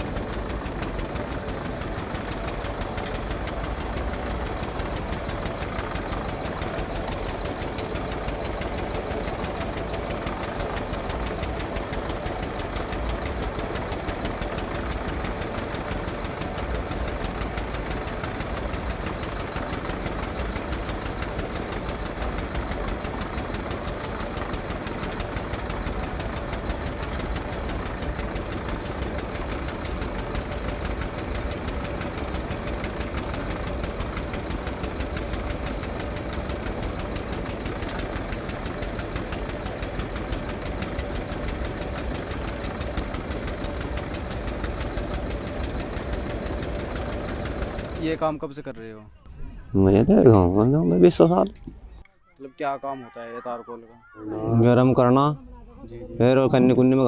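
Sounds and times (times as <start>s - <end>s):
engine idling: 0.0s - 52.2s, 53.4s - 57.0s.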